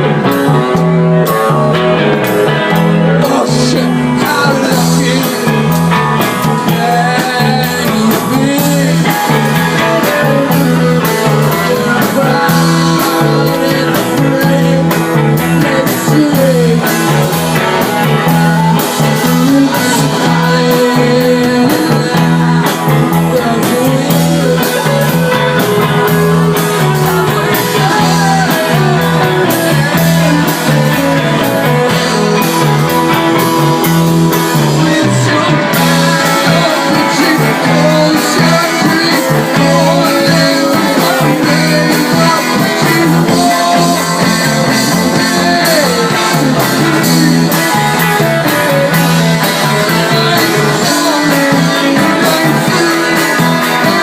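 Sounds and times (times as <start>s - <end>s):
person singing: 0.0s - 54.0s
rock band playing loudly: 0.0s - 54.0s.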